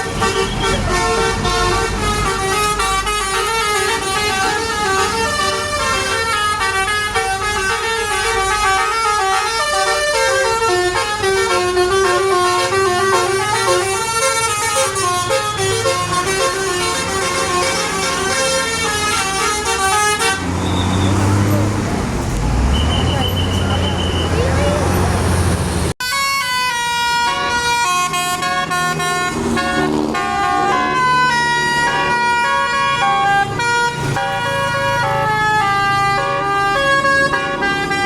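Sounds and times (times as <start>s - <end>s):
musical bus horn melody: 0.0s - 21.5s, 26.0s - 38.0s.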